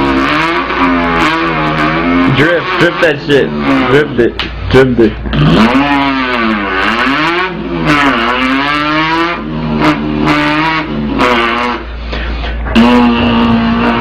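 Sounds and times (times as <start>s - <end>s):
person imitating car engine: 0.0s - 14.0s.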